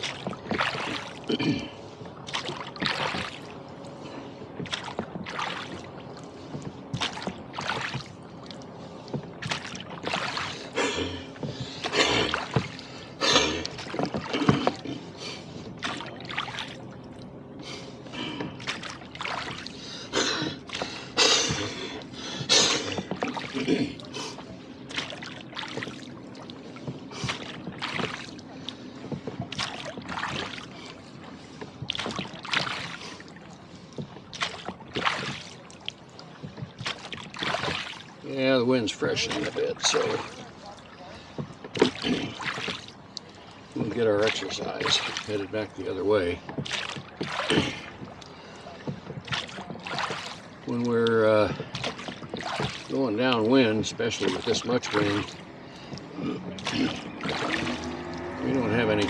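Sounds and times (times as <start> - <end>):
water splashing against boat and oars: 0.0 - 59.0.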